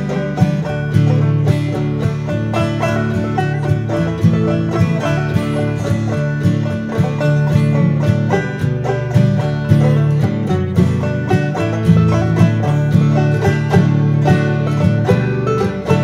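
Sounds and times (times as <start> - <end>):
banjo-led bluegrass music: 0.0 - 16.0.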